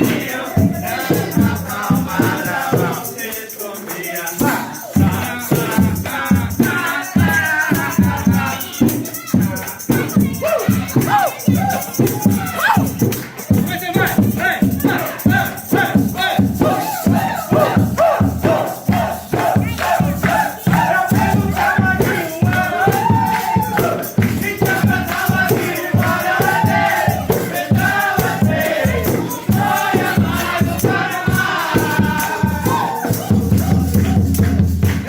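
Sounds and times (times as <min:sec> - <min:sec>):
crowd hubbub: 0:00.0 - 0:35.0
festive music with singing: 0:00.0 - 0:35.0.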